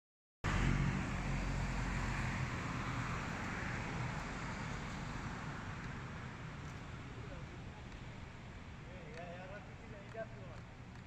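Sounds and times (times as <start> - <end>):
urban background hum: 0.5 - 11.0.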